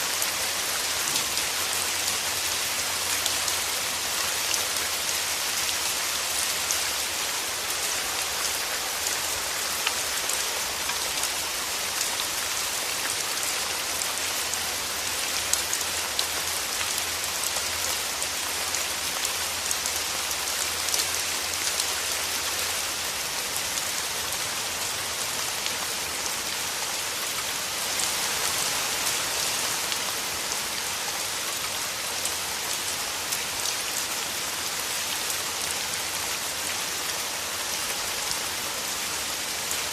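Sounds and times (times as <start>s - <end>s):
rain falling through trees: 0.0s - 39.9s.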